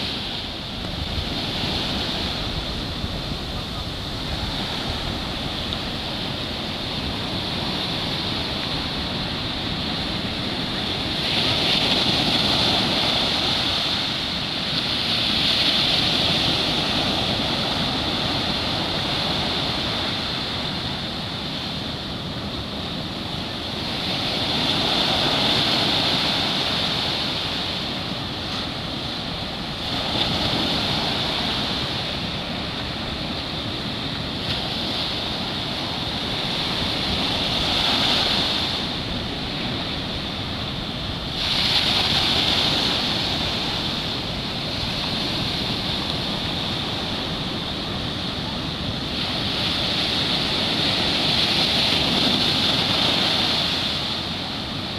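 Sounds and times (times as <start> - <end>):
ocean surf breaking: 0.0 - 54.9.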